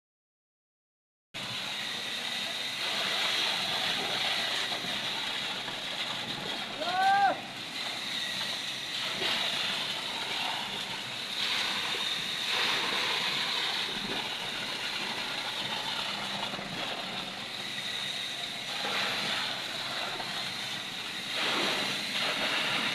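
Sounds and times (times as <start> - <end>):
concrete pump machine noise: 1.4 - 22.9.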